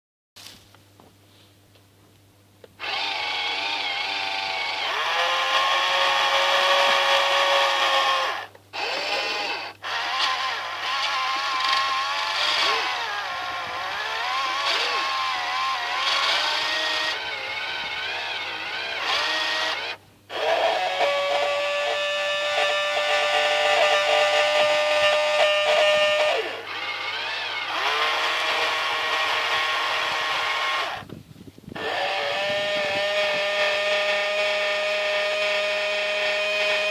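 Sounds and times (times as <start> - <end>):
small electric motors whining: 2.8 - 36.9.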